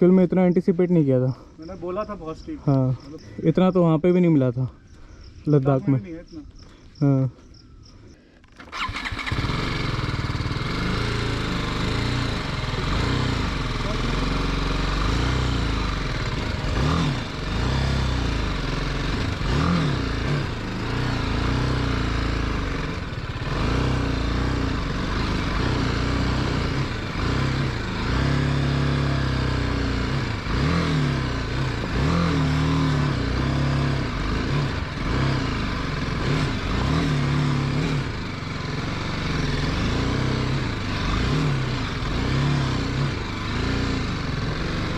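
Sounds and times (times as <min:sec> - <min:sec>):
motorcycle engine revving: 0:08.6 - 0:44.9.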